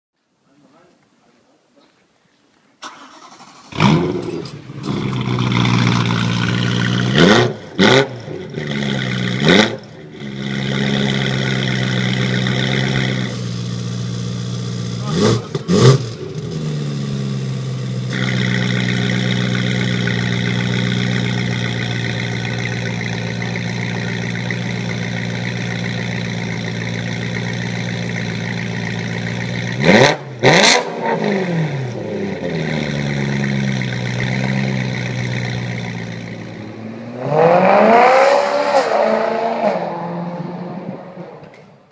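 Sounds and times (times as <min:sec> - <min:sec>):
car engine idling and revving: 0:02.9 - 0:41.6.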